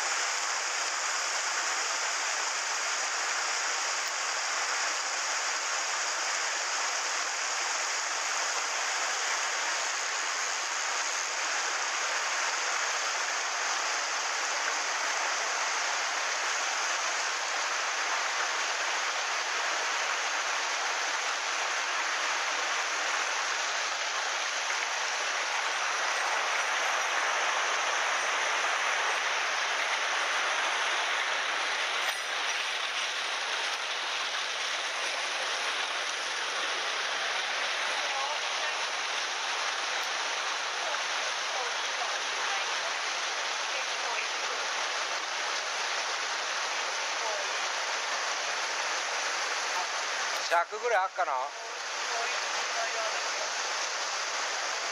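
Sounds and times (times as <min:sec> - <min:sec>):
stream rushing over boulders: 0:00.0 - 0:54.9.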